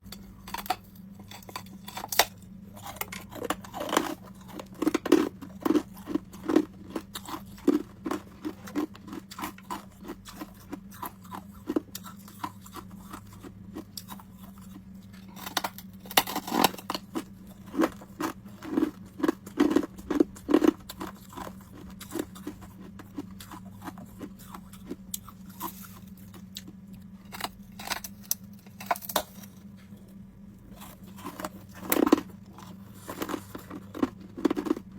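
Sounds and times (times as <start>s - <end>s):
steady low hum: 0.0s - 34.9s
ice cubes crunching in mouth: 0.5s - 14.8s, 15.4s - 29.7s, 30.7s - 34.9s.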